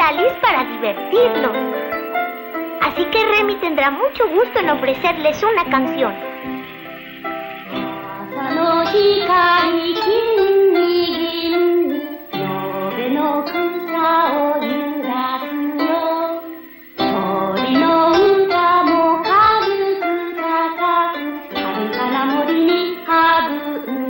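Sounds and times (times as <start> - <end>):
young voice singing: 0.0 - 6.7, 7.7 - 24.0
plucked strings: 0.0 - 14.0, 17.0 - 24.0.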